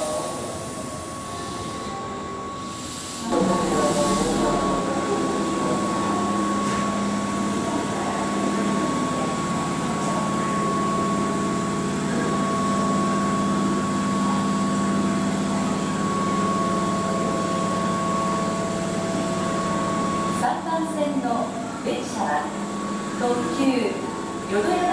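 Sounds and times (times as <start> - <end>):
electric train hum and whine: 0.0 - 24.9.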